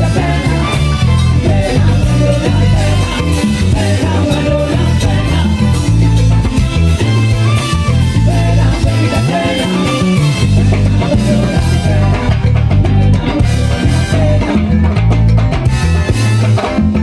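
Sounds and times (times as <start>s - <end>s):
salsa band playing: 0.0s - 17.0s.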